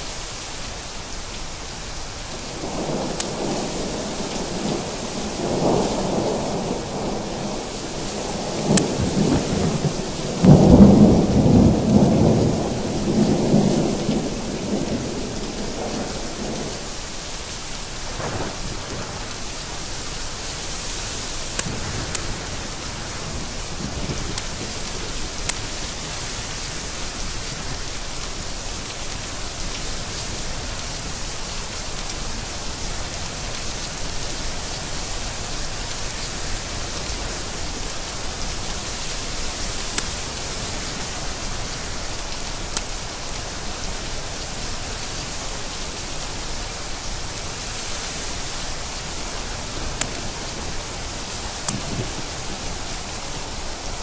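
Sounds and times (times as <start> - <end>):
steady rain: 0.0 - 54.0
raindrops ticking close by: 0.1 - 54.0.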